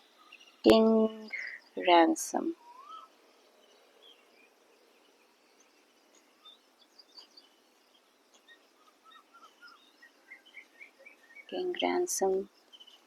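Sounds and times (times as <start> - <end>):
faint bird chirps: 0.0 - 13.0
faint room hiss: 0.0 - 13.0.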